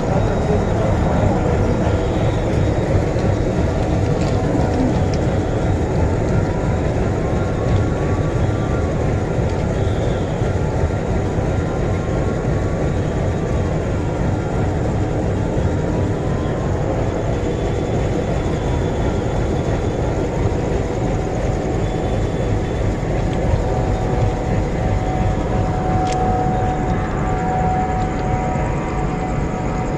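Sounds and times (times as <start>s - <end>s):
outdoor rumble: 0.0s - 29.3s.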